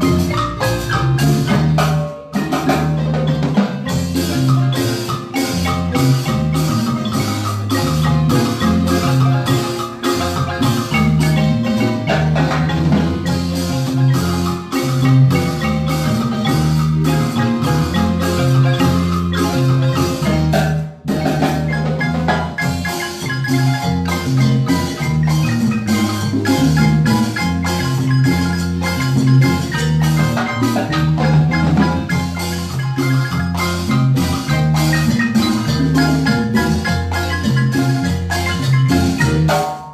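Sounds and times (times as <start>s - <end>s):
marimba ensemble playing: 0.0s - 39.9s.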